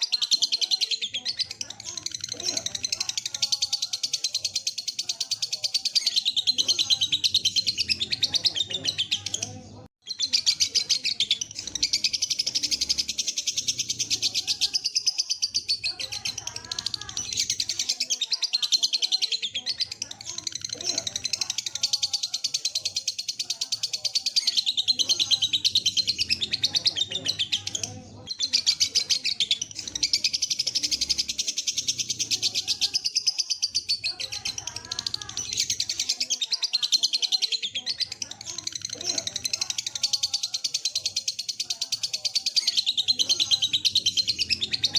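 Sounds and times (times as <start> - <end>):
lovebird rapid high chirps: 0.0 - 44.9.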